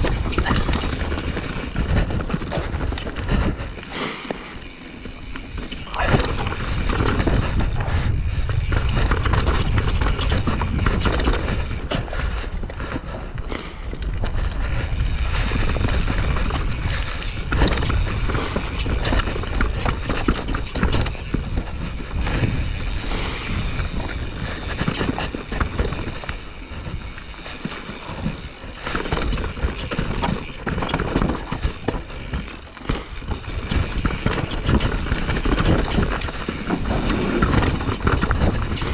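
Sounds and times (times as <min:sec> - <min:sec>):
wind rumble on microphone: 0:00.0 - 0:03.9, 0:05.2 - 0:38.9
bike rattling and knocking: 0:00.0 - 0:38.9
bike tyres rolling on dirt: 0:00.0 - 0:38.9.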